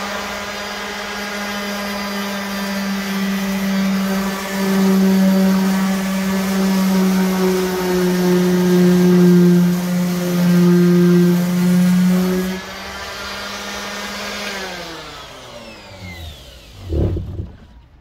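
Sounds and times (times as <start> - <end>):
electric sander motor: 0.0 - 17.8.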